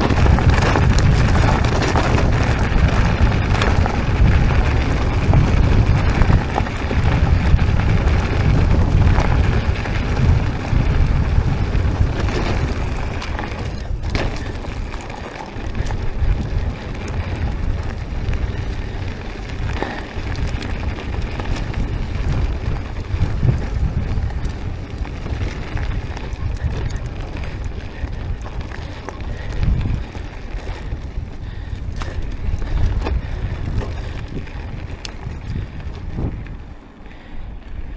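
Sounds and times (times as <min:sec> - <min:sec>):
tyres rumbling on dirt trail: 0:00.0 - 0:37.9
wind buffeting microphone: 0:00.0 - 0:37.9.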